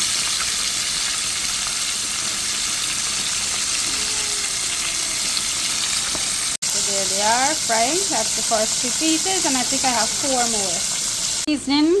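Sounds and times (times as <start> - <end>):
fish frying in a pan: 0.0 - 11.5.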